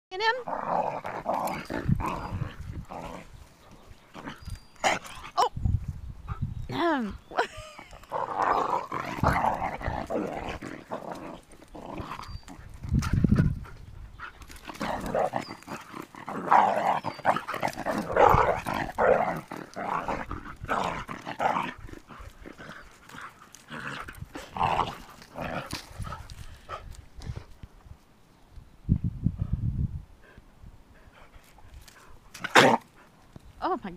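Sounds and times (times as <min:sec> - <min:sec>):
dogs play growling: 0:00.5 - 0:05.5, 0:07.7 - 0:27.5, 0:30.2 - 0:33.2.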